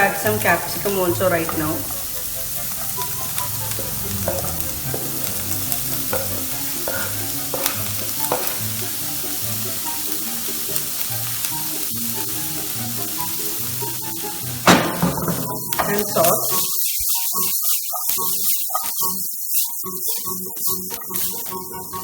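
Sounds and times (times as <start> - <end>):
spoon tapping and scraping pan: 0.0 - 19.1
vegetables sizzling in oil: 0.0 - 22.0.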